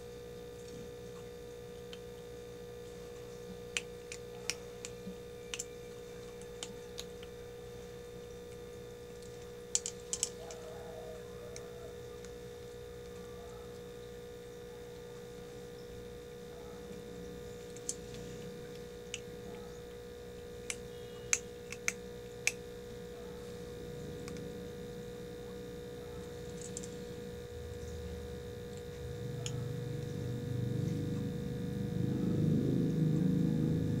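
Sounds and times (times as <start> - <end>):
steady electrical hum: 0.0 - 34.0
kitten chewing food: 0.3 - 31.4.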